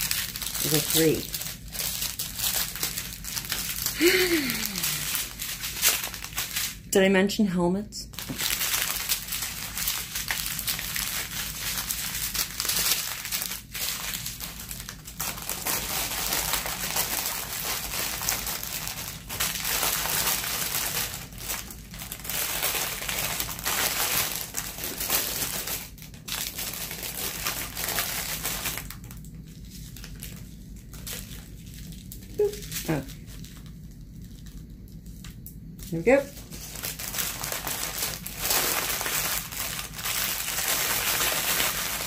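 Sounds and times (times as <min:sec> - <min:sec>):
plastic bags crinkling: 0:00.0 - 0:07.0, 0:08.1 - 0:42.0.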